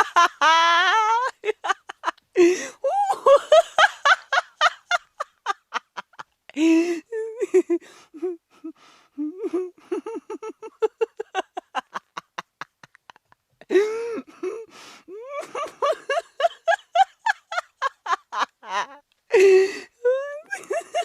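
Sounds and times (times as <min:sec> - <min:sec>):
woman laughing: 0:00.0 - 0:21.0.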